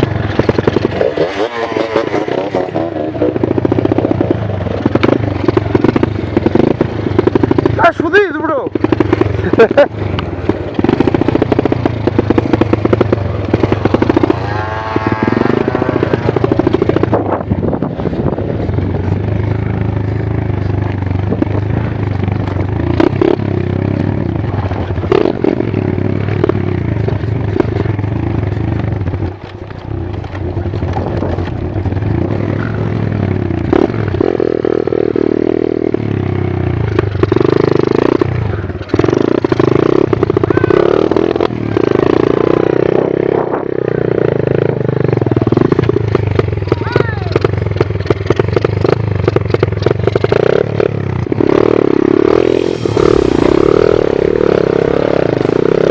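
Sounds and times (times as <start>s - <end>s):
pit bike engine revving: 0.0s - 29.3s, 30.0s - 55.9s.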